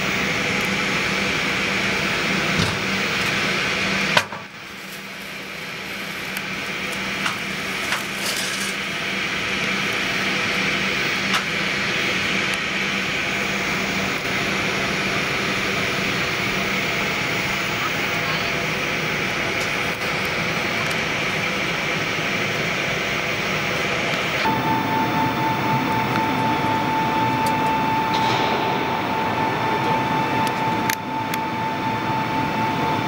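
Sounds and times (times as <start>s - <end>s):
airliner cabin hum and air rush: 0.0s - 33.0s.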